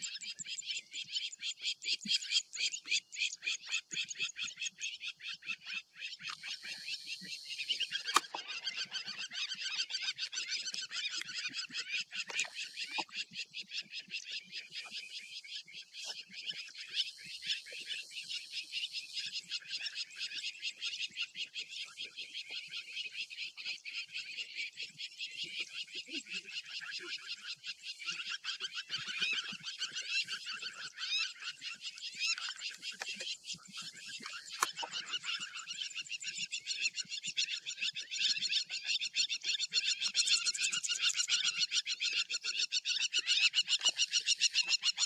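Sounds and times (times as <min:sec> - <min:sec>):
birds chirping and chattering: 0:00.0 - 0:45.0.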